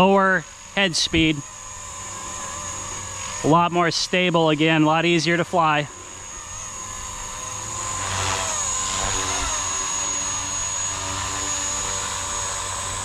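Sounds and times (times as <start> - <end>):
rc helicopter whine: 0.0 - 13.0.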